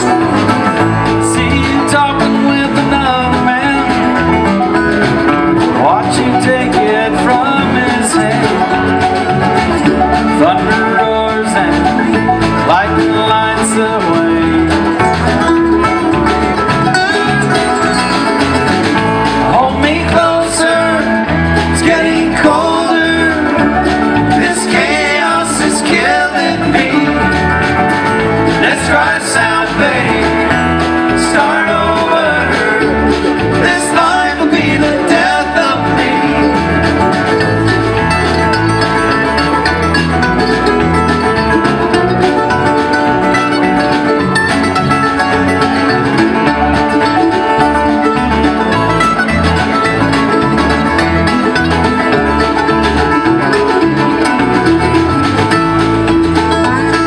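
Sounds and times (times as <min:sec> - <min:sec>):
acoustic guitar: 0:00.0 - 0:57.0
banjo picking: 0:00.0 - 0:57.0
mandolin: 0:00.0 - 0:57.0.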